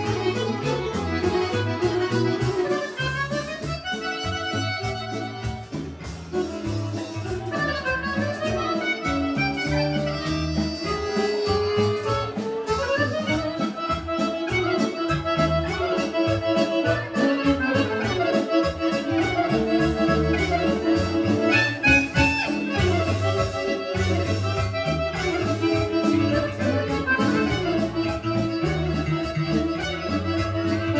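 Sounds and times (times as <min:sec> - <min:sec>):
accordion melody: 0:00.0 - 0:30.9
folk band dance tune: 0:00.0 - 0:30.9.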